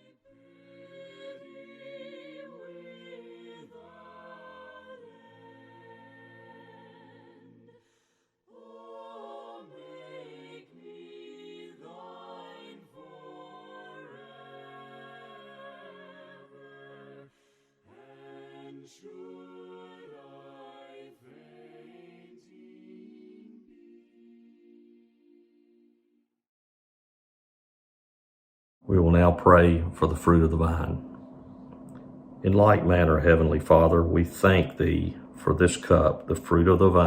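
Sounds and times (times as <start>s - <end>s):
faint a cappella choir singing: 0.0s - 26.0s, 29.0s - 37.0s.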